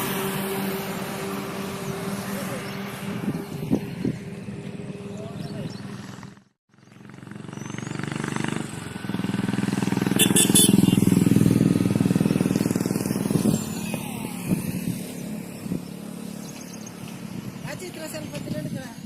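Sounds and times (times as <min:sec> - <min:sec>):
diesel engine driving past: 0:00.0 - 0:17.7.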